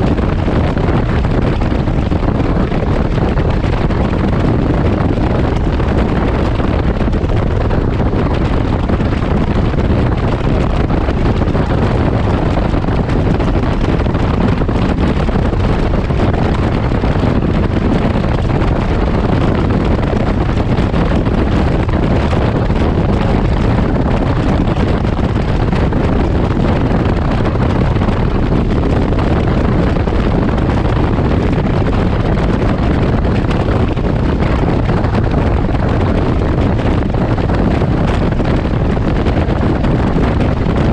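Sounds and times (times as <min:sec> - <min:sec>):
road noise: 0:00.0 - 0:40.9
wind buffeting microphone: 0:00.0 - 0:40.9.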